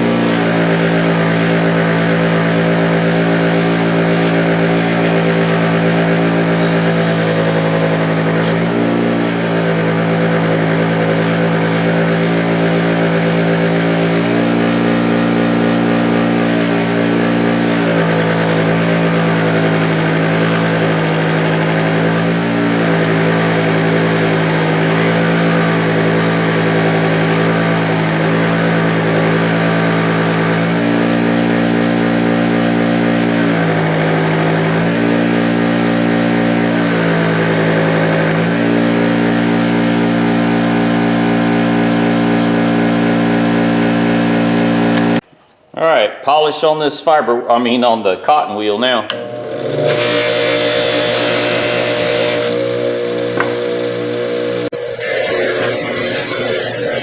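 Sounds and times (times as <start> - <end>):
bench grinder motor humming: 0.0 - 45.2, 49.1 - 57.0.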